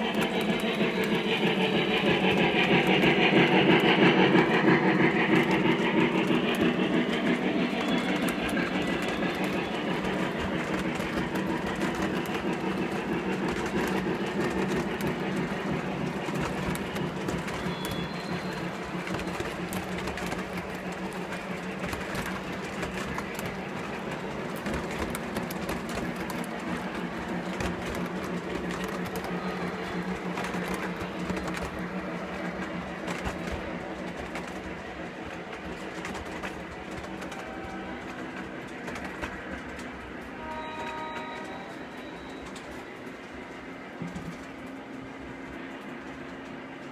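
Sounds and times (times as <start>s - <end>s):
model train humming: 0.0s - 46.9s
model train wheels clicking: 0.0s - 46.9s.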